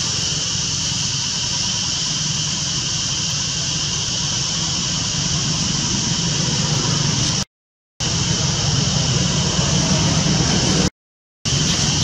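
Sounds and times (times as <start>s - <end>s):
high-pitched drone: 0.0s - 10.9s.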